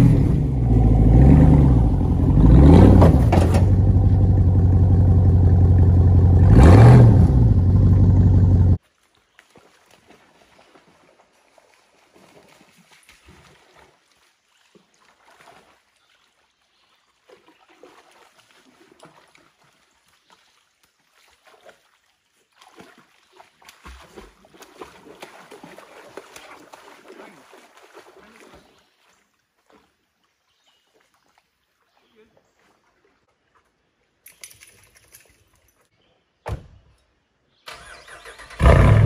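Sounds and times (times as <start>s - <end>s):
water splashing and sloshing: 0.1s - 6.0s, 6.8s - 36.0s.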